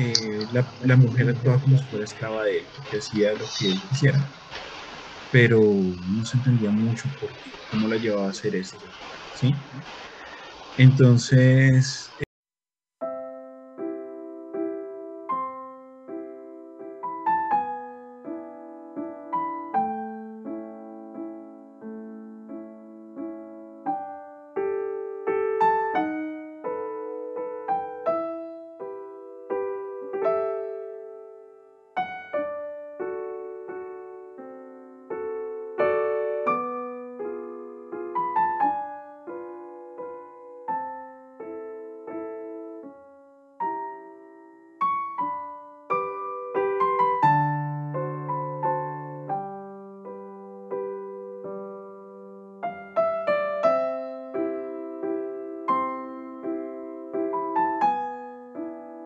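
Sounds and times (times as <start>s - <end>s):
solo piano piece: 0.0s - 12.3s, 13.0s - 59.0s.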